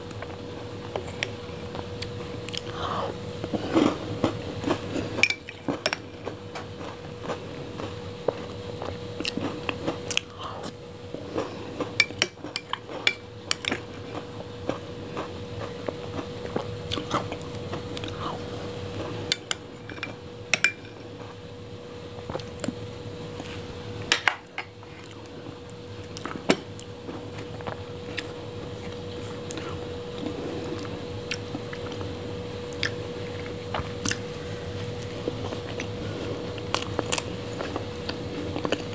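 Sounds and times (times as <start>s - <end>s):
faint hum: 0.0s - 38.9s.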